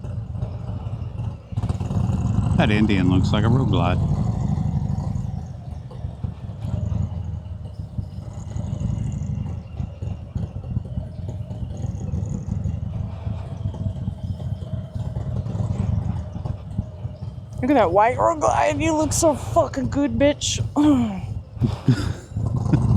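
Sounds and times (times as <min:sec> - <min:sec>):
motorcycle engine running at low revs: 0:00.0 - 0:22.9.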